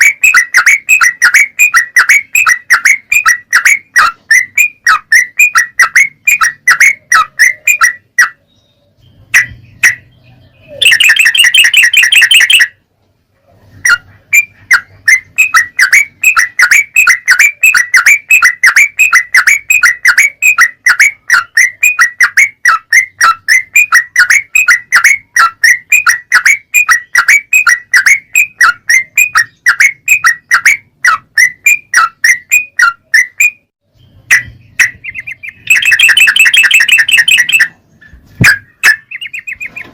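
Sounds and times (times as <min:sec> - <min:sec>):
fast dense bird trilling: 0:00.0 - 0:12.8, 0:13.6 - 0:39.9
bulbul song: 0:00.0 - 0:12.9, 0:13.6 - 0:39.9.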